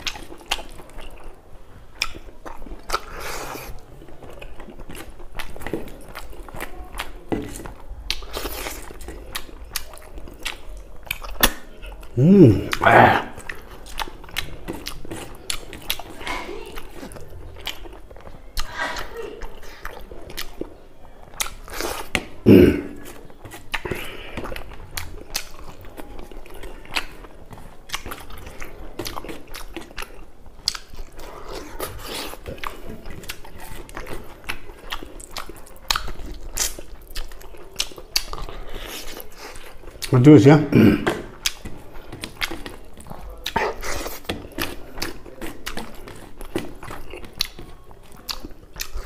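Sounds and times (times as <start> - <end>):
person chewing: 0.0 - 49.0
lip smacking: 1.9 - 49.0.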